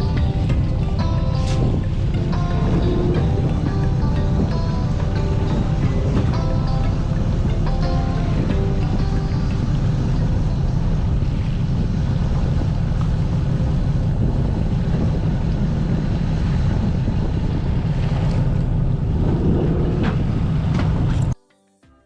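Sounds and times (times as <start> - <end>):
boat engine rumbling: 0.0 - 21.4
water noise from hull: 0.0 - 21.4
wind buffeting microphone: 0.0 - 21.4.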